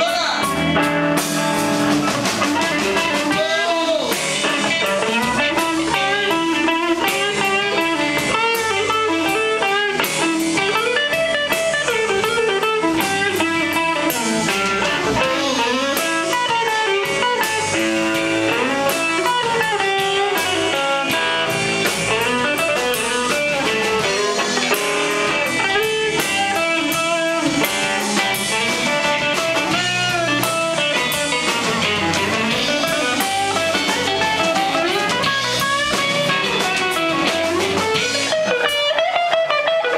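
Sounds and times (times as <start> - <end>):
bass guitar: 0.0 - 39.9
drums: 0.0 - 39.9
electric guitar lead with bent notes: 0.0 - 39.9.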